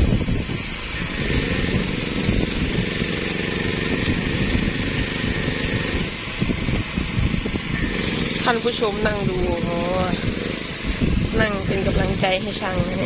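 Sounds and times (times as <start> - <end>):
electric arc welding crackle: 0.0 - 13.0
engine running: 0.0 - 13.0.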